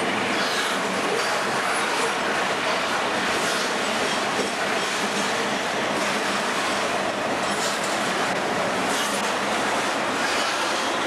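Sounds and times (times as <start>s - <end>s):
steel wheels running on rail: 0.0s - 11.0s.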